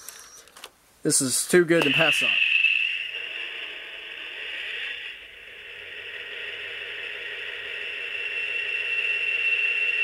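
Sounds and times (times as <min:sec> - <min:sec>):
model locomotive diesel idle: 0:01.7 - 0:10.0.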